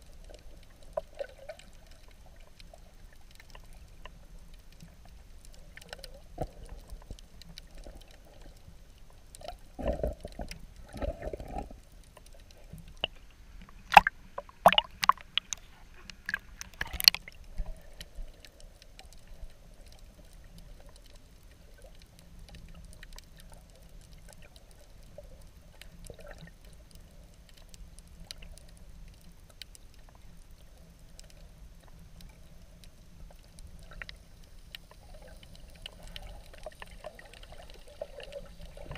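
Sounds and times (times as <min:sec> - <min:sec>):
muffled underwater water movement: 0:00.0 - 0:38.9
muffled water surges: 0:00.0 - 0:38.9
sharp clicks and crackles: 0:00.0 - 0:38.9.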